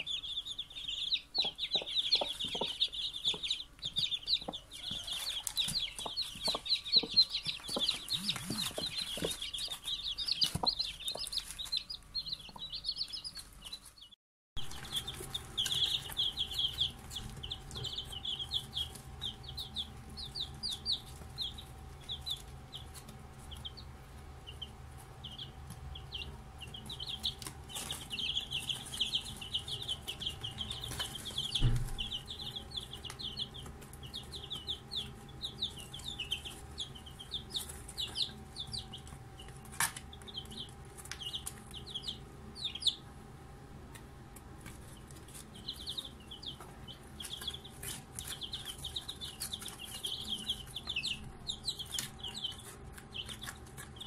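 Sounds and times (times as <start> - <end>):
chicks peeping: 0.0 - 54.0
faint steady hum: 0.0 - 54.0.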